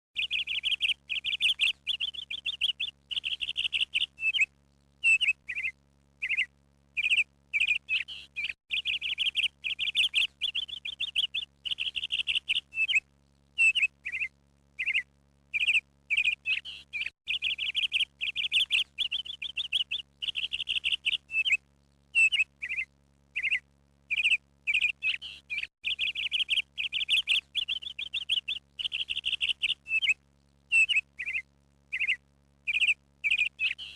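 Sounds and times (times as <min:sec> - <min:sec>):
bird chirping in buzzy trills: 0:00.2 - 0:33.9
faint steady hum: 0:00.2 - 0:33.9.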